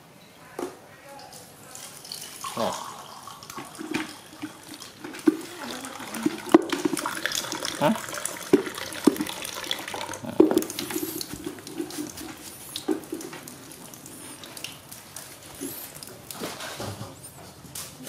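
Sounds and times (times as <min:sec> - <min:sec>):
water splashing onto concrete: 0:01.7 - 0:16.6.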